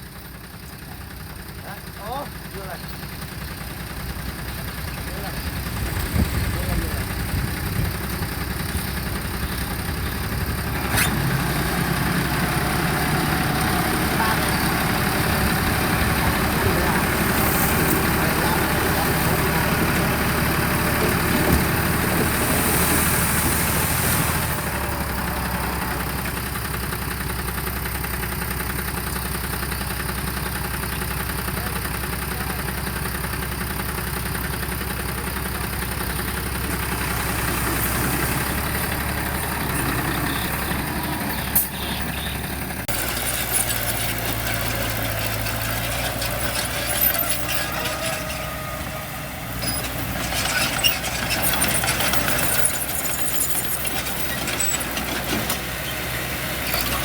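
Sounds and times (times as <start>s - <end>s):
construction machine diesel engine: 0.0s - 57.0s.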